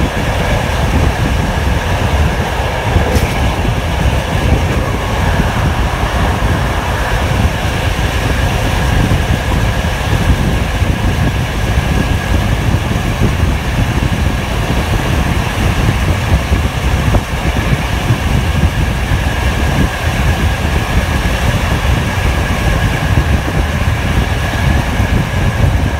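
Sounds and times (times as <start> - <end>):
high whine: 0.0 - 25.9
passenger train rumbling: 0.0 - 25.9.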